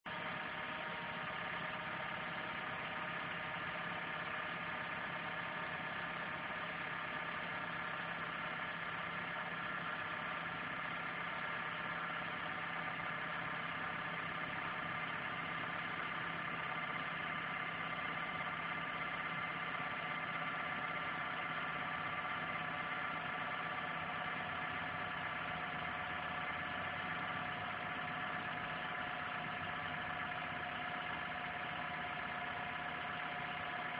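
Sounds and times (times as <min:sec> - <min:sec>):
car engine running: 0:00.1 - 0:33.9.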